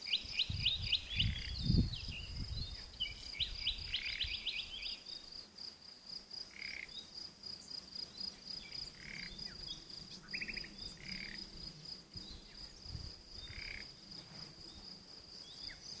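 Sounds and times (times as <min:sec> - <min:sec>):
crickets trilling: 0:00.0 - 0:16.0
short lower insect call: 0:00.0 - 0:16.0.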